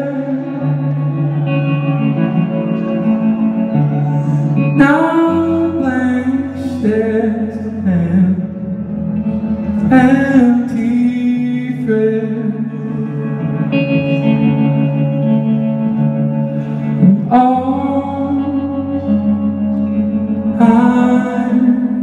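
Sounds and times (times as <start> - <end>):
man singing: 0.0 - 1.5, 4.3 - 15.6, 16.7 - 22.0
electric guitar chords: 0.0 - 22.0.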